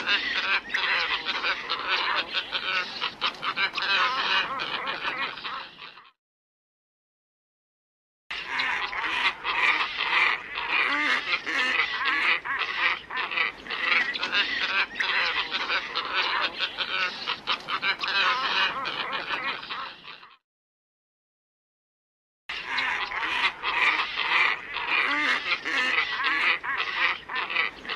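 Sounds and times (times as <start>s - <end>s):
flock of ibis calling: 0.0s - 6.2s, 8.3s - 20.4s, 22.5s - 27.9s.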